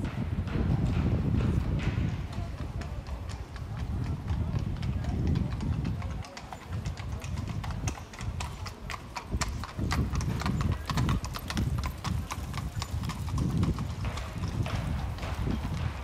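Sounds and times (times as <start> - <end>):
horse hooves clip-clopping: 0.0 - 16.0.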